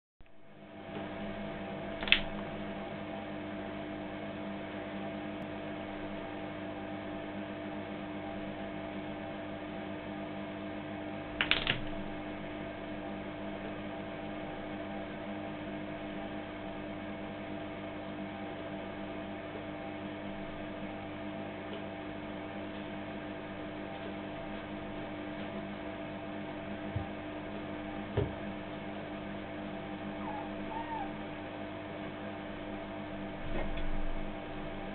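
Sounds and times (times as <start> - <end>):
steady hum: 0.2 - 34.9.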